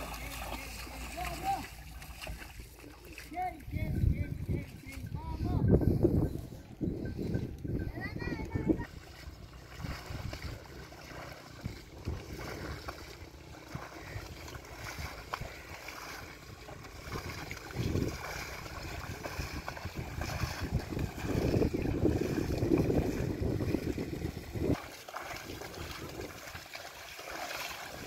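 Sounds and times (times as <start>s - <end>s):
water buffalo splashing: 0.0s - 28.0s
wind buffeting microphone: 3.4s - 26.6s.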